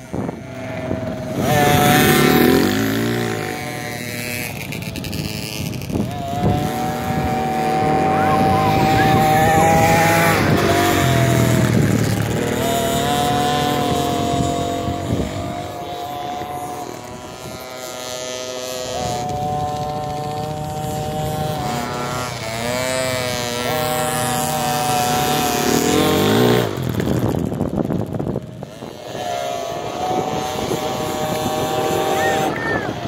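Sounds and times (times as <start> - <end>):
dirt bikes revving: 0.0 - 33.0.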